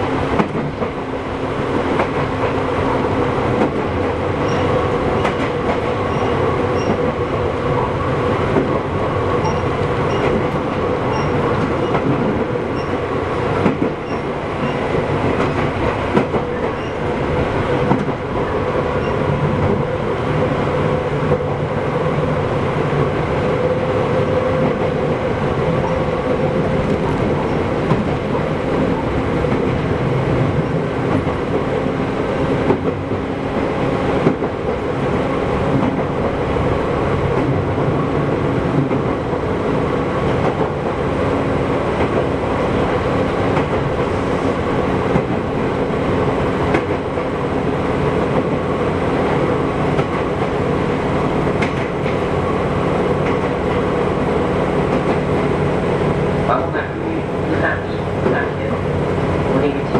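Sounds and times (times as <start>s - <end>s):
rail-joint clacks: 0.3s - 1.1s, 1.7s - 20.0s, 24.4s - 36.5s, 37.2s - 41.0s, 41.9s - 54.1s, 54.7s - 55.6s, 56.4s - 59.9s.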